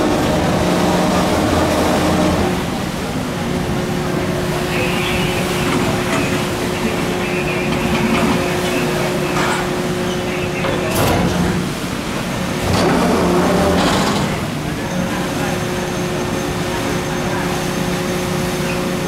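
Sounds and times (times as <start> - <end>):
marine engines droning: 0.0 - 19.0
sea wash rushing: 0.0 - 19.0.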